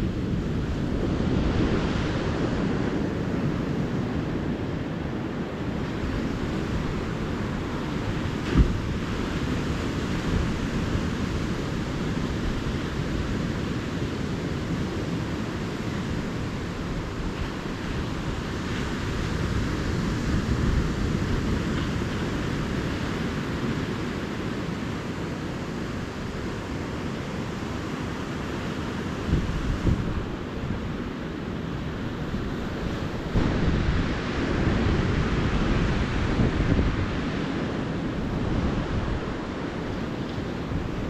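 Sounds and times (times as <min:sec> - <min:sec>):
ocean surf washing onto beach: 0:00.0 - 0:41.0.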